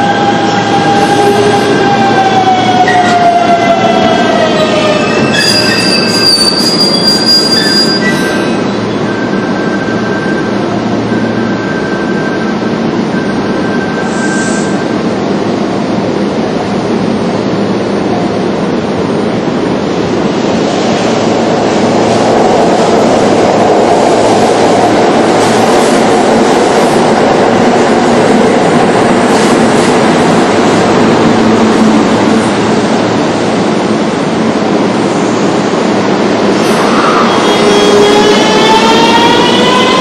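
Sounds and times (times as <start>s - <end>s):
train running noise echoing: 0.0s - 40.0s.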